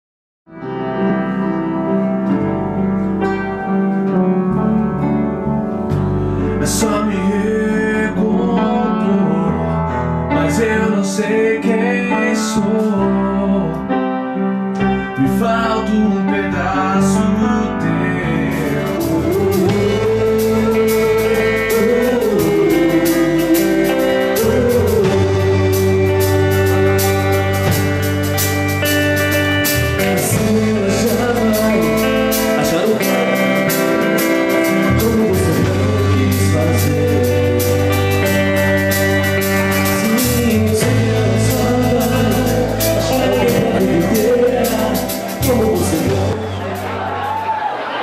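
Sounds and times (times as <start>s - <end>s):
song with guitar and piano: 0.5s - 48.0s.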